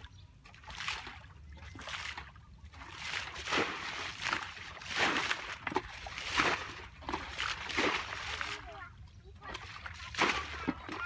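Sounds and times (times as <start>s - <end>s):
water scooping sloshes and pours: 0.4s - 11.0s.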